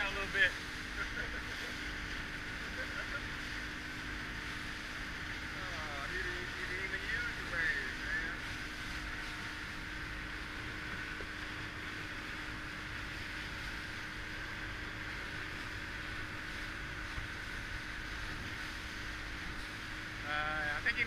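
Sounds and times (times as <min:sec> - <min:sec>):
water washing around boat: 0:00.0 - 0:21.0
wind: 0:00.0 - 0:21.0.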